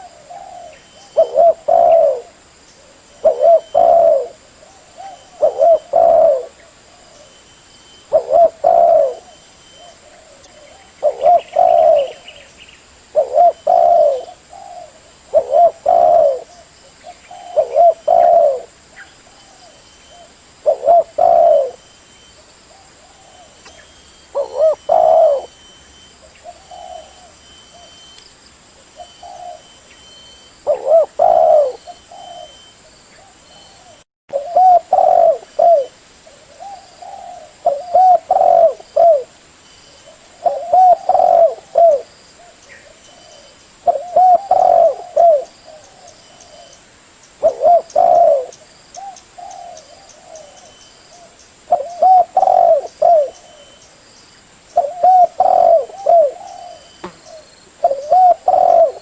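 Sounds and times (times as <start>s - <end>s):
dove cooing: 0.0s - 7.4s, 8.0s - 12.5s, 13.1s - 21.8s, 22.7s - 28.0s, 29.0s - 29.8s, 30.4s - 39.4s, 40.0s - 46.8s, 47.4s - 53.9s, 54.7s - 59.0s.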